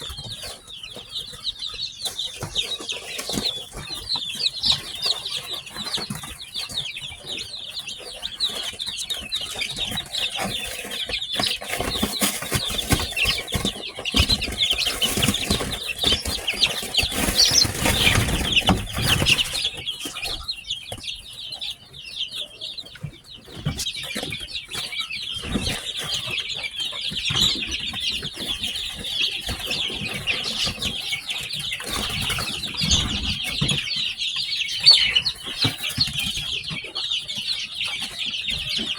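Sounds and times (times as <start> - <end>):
chicks peeping: 0.0 - 38.9
scuffling and wing flapping: 0.0 - 38.9.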